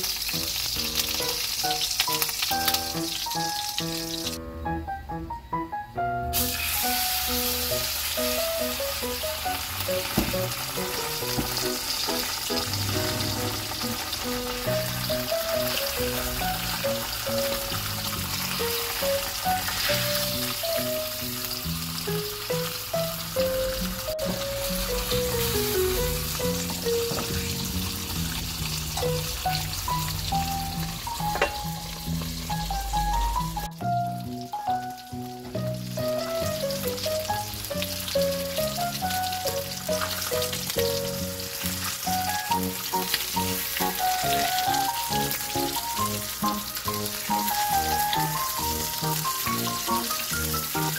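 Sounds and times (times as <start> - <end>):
fish sizzling in hot oil: 0.0 - 4.4, 6.3 - 50.9
background music: 0.0 - 50.9.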